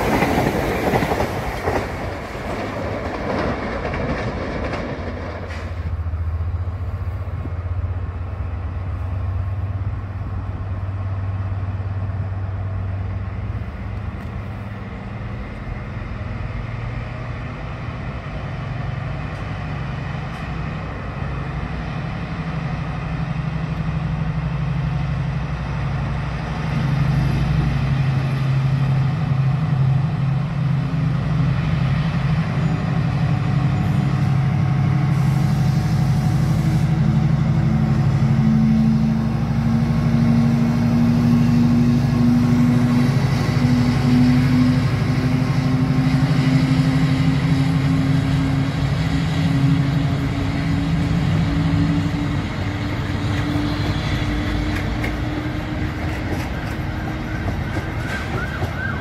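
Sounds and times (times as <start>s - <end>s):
diesel locomotive engine passing: 0.0s - 59.0s
quiet train rumble: 0.0s - 59.0s.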